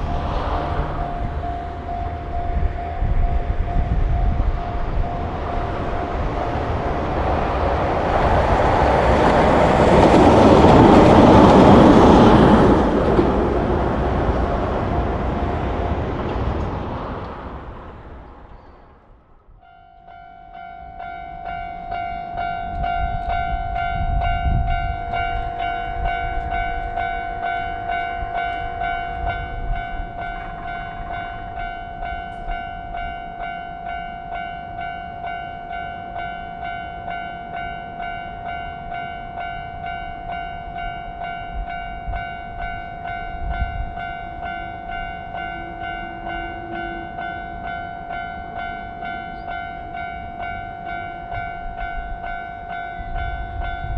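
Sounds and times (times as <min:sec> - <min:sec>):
level crossing warning bell: 0:00.0 - 0:14.7, 0:19.6 - 0:53.9
train rumbling: 0:00.0 - 0:53.9.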